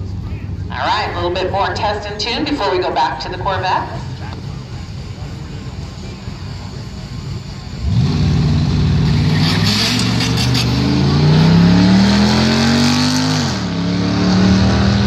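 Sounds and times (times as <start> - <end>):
car engine at full throttle: 2.6 - 15.0.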